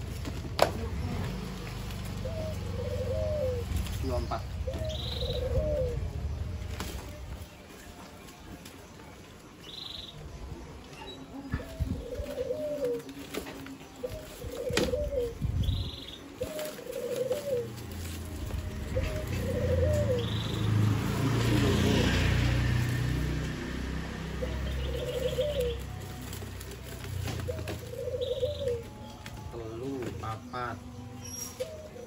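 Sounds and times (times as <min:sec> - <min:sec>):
dove cooing: 0:00.0 - 0:07.5, 0:11.0 - 0:32.0.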